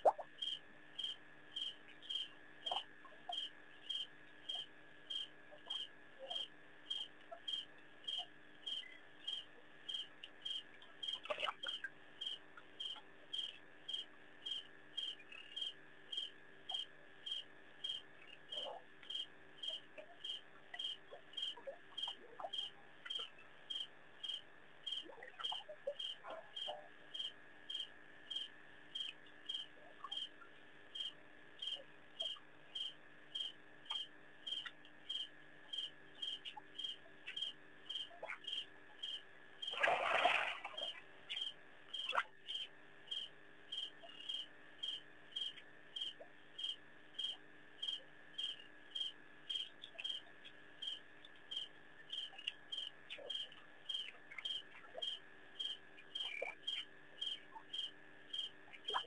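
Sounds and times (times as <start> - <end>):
cricket chirping: 0.0 - 59.0
faint steady whine: 0.0 - 59.0.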